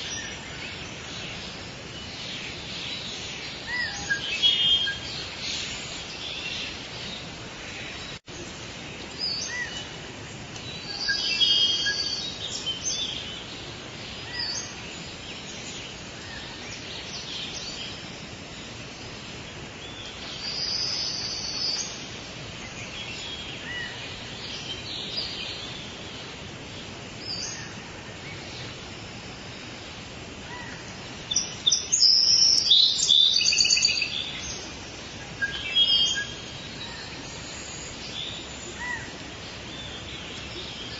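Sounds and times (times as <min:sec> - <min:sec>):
background hiss: 0:00.0 - 0:40.9
birds calling and chirping: 0:00.0 - 0:40.9.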